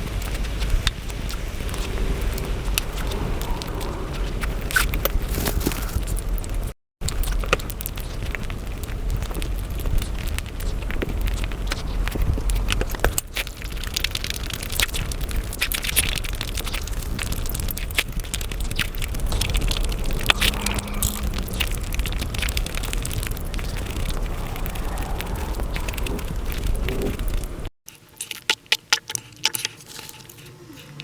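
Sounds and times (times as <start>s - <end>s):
rapid chewing and mouth smacks: 0.0s - 6.5s, 7.1s - 31.0s.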